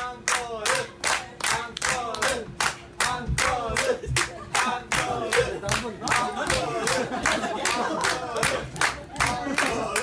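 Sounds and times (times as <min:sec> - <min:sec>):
audience clapping in rhythm: 0:00.0 - 0:10.0.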